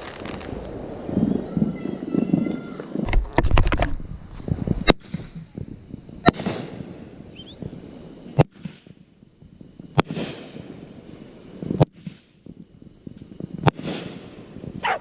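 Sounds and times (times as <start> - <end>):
crackling hiss: 0.0 - 15.0
fireworks bangs: 0.0 - 15.0.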